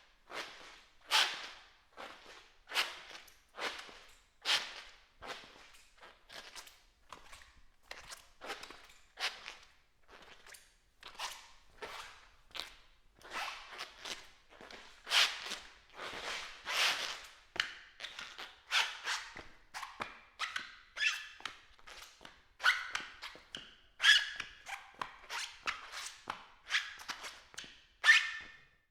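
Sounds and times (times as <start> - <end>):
shoes squeaking on smooth floor: 0.3 - 17.4, 18.0 - 28.9.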